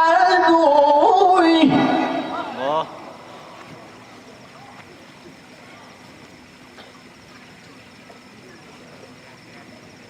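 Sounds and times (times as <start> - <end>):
faint hum: 0.0 - 10.0
high-pitched whine: 0.0 - 10.0
low indistinct voices: 0.8 - 10.0.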